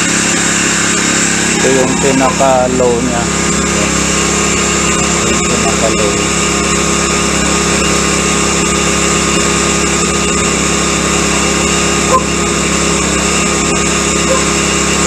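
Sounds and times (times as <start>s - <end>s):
small boat motor running: 0.0s - 15.0s.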